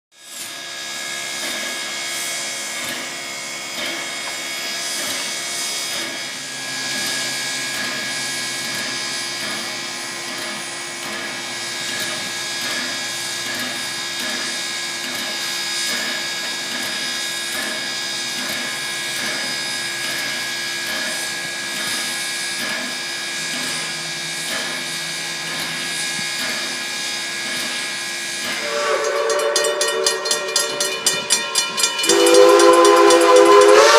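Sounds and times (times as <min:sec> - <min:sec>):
steam locomotive hissing and whining: 0:00.1 - 0:33.9.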